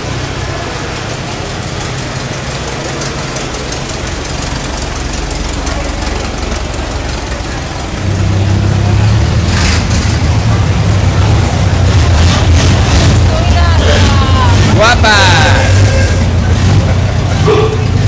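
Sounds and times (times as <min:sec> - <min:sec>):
car engines humming: 0:00.0 - 0:18.0.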